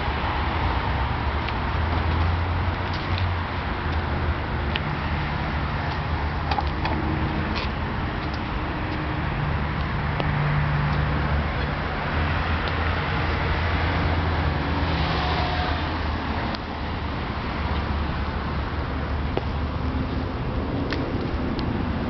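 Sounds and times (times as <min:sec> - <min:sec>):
constant low hum: 0:00.0 - 0:22.0
motor vehicles rumbling: 0:00.0 - 0:22.0.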